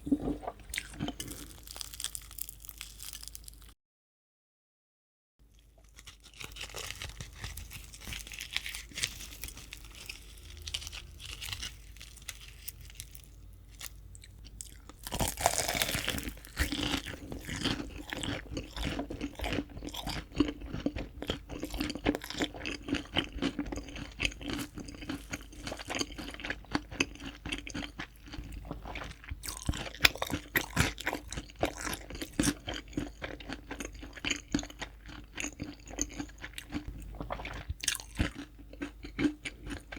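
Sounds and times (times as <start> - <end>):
chewing crispy fried chicken: 0.1 - 3.8, 5.4 - 39.9.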